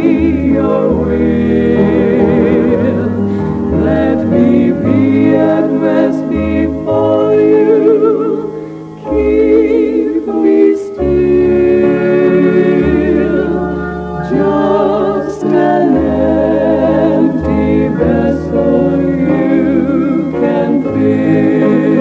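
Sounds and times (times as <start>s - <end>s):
choir singing: 0.0s - 22.0s
organ: 0.0s - 22.0s.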